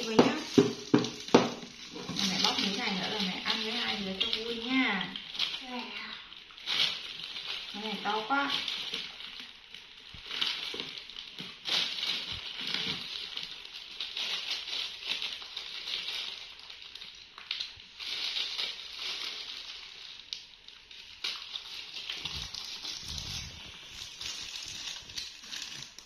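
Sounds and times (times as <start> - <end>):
hands tearing fruit pods: 0.0 - 26.0
plastic gloves crinkling: 0.0 - 26.0.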